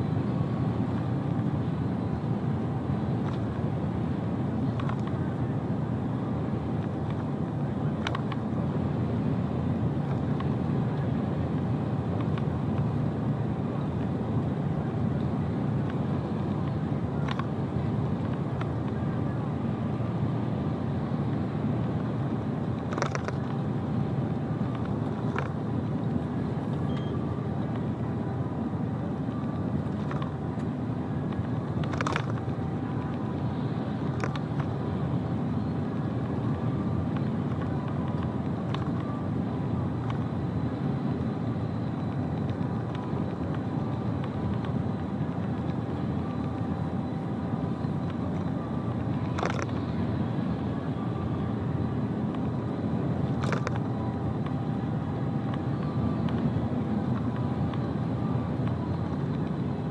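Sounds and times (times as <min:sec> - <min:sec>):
faint steady tones: 0:00.0 - 0:59.9
truck engine and road rumble: 0:00.0 - 0:59.9.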